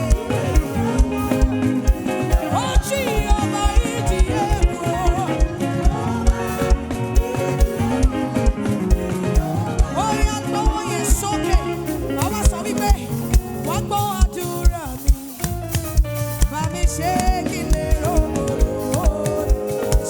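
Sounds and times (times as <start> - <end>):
upbeat live praise music: 0.0 - 20.0.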